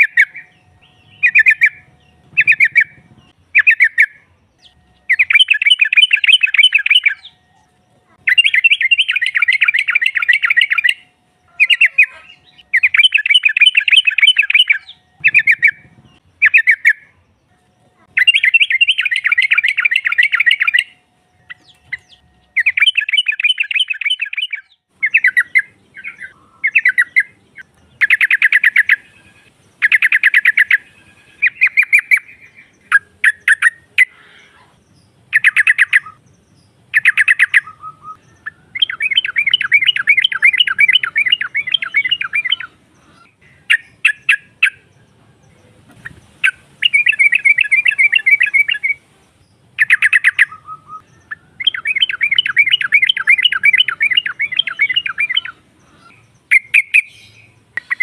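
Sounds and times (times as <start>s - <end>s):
bird chattering: 0.0s - 17.2s, 18.0s - 36.2s, 36.9s - 45.0s, 46.0s - 49.0s, 49.7s - 58.0s.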